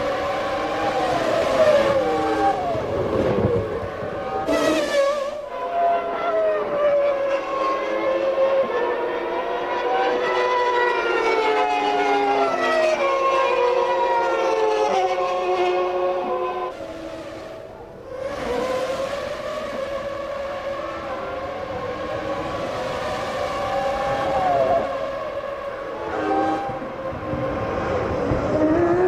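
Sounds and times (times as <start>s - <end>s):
racing car engines at high revs: 0.0s - 29.0s.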